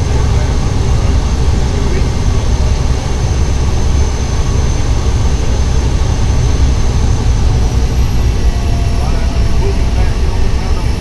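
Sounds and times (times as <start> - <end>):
high steady whine: 0.0 - 11.0
turboprop engine droning: 0.0 - 11.0.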